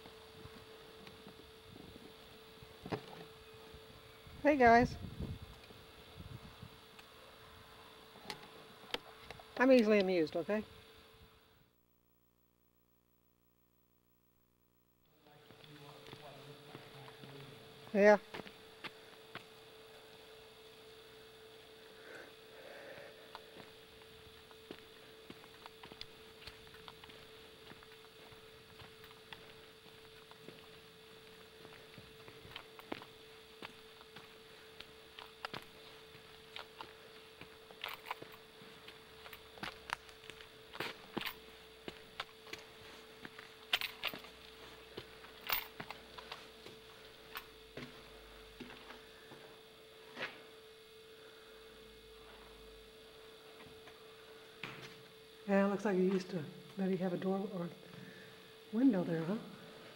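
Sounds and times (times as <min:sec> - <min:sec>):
faint electrical hum: 0:00.0 - 0:59.9.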